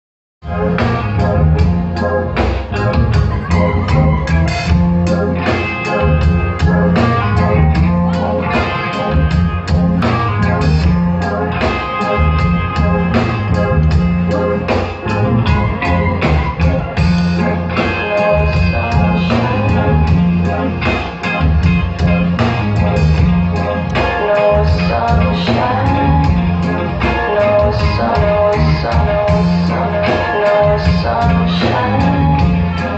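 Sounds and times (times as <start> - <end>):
drum kit beat: 0.4 - 32.9
electric guitars: 0.4 - 32.9
keyboard: 0.4 - 32.9.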